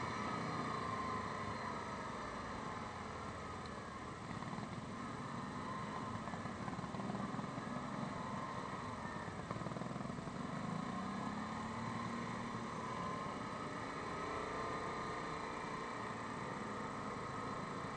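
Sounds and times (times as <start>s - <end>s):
atv engine running: 0.0s - 17.9s.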